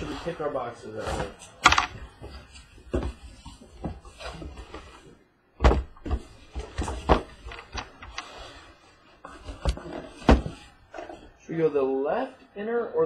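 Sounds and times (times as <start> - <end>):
cardboard flaps rustling and scraping: 0.0 - 11.3.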